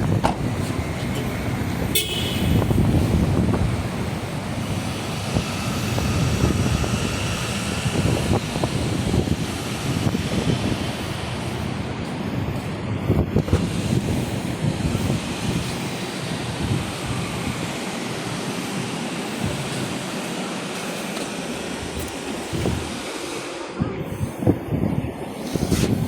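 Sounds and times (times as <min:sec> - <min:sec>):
gusty low wind noise: 0:00.0 - 0:23.1, 0:23.7 - 0:26.0
motor traffic rumble: 0:00.0 - 0:26.0.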